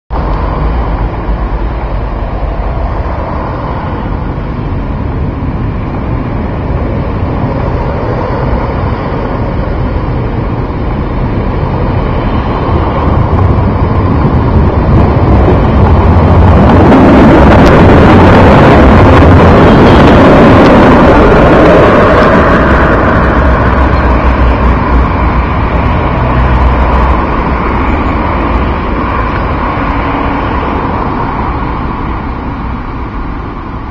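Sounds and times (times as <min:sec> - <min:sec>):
tram passing: 0:00.1 - 0:33.9
wind rumble on microphone: 0:00.1 - 0:33.9.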